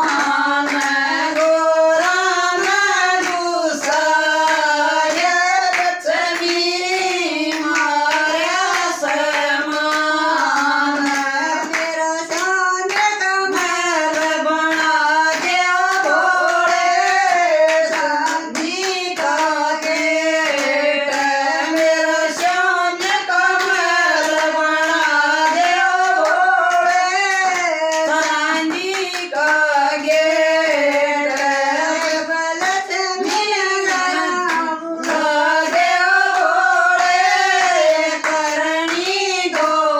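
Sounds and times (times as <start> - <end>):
high voice singing folk song: 0.0 - 39.9
rhythmic hand clapping: 0.0 - 39.9.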